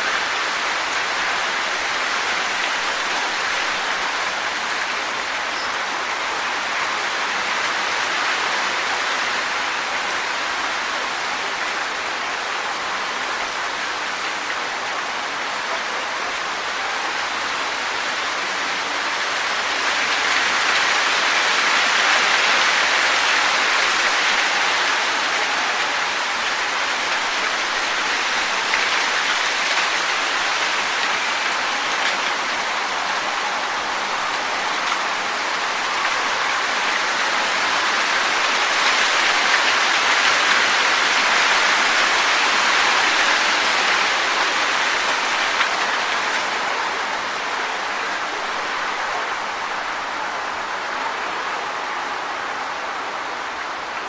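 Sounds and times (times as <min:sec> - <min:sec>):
wind rustling leaves: 0:00.0 - 0:54.0.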